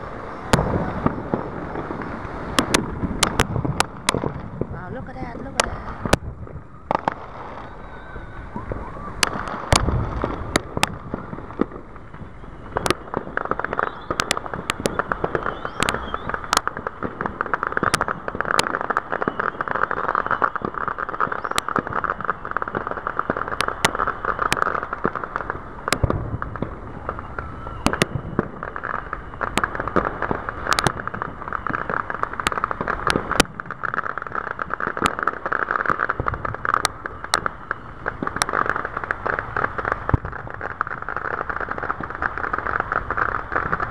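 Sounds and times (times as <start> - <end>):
deep fireworks booms: 0.0 - 43.9
dense crackling noise: 0.0 - 43.9
fireworks cracks: 0.0 - 43.9.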